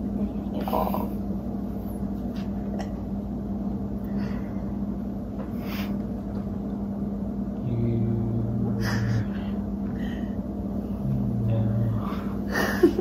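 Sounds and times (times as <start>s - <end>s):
low mechanical hum with rumble: 0.0s - 13.0s.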